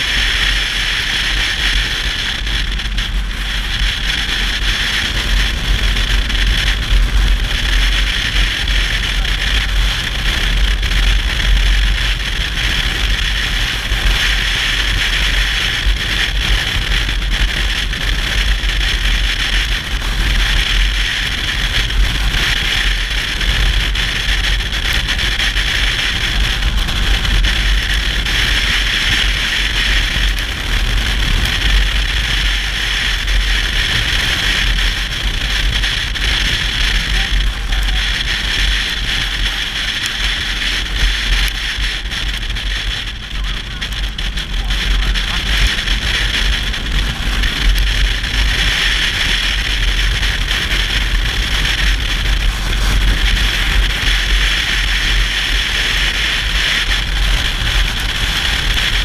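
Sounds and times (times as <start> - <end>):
motorcycle engine rumble: 0.0 - 59.0.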